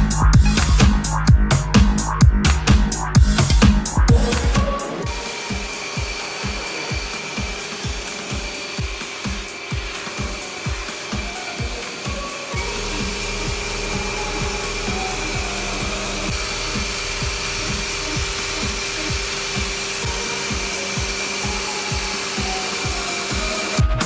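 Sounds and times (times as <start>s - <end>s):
pressure washer motor whine: 3.4s - 24.0s
pressure washer water jet hissing: 4.1s - 24.0s.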